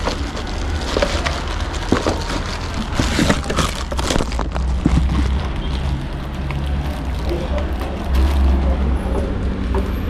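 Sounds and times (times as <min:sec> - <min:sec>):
cardboard packaging rustling: 0:00.0 - 0:08.6
plastic wrapping crinkling: 0:00.0 - 0:09.0.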